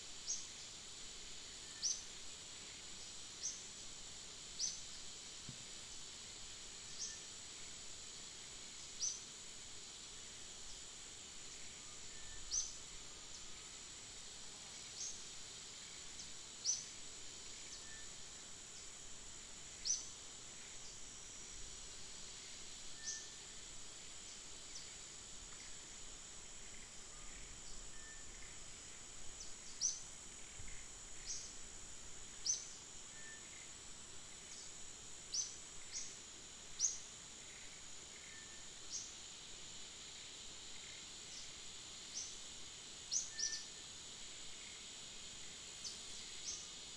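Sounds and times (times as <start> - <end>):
high-pitched insect drone: 0.1 - 46.9.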